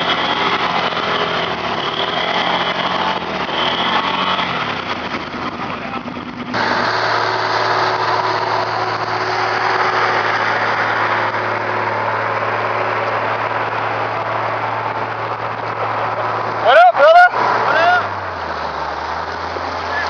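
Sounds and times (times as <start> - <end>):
atv engine running: 0.0 - 20.0
dense rushing noise: 0.0 - 20.0.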